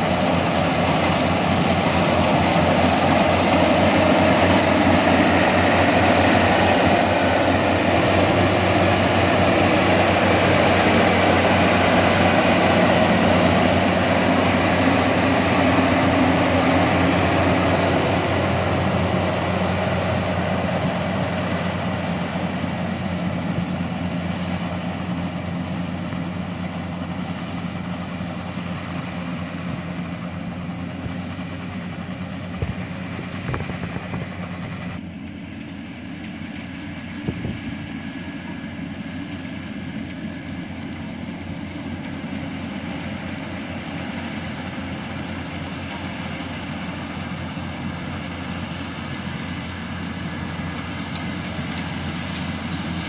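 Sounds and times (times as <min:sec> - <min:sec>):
combine harvester running: 0:00.0 - 0:53.0
distant combine harvester: 0:00.0 - 0:53.0.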